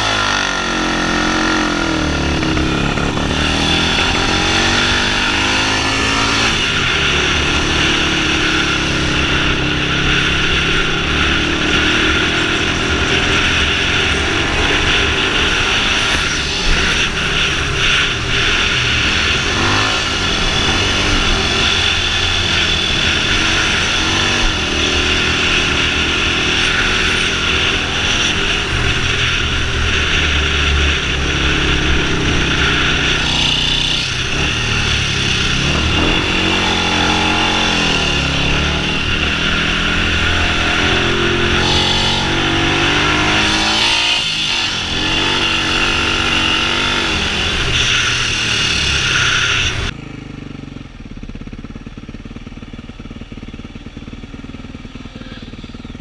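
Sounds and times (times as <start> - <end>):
motorcycle engine revving: 0.0 - 56.0
wind rush: 1.4 - 49.9.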